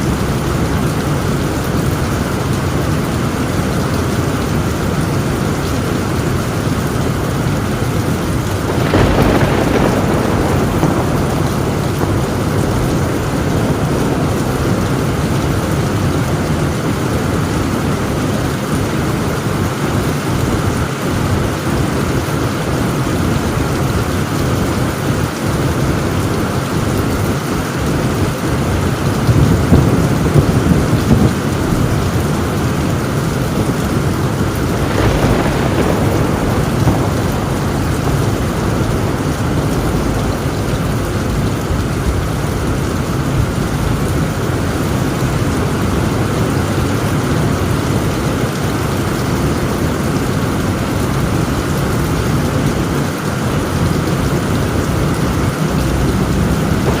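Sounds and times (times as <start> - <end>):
heavy rain on a tin roof: 0.0 - 57.0
thunder rumbling: 0.0 - 57.0.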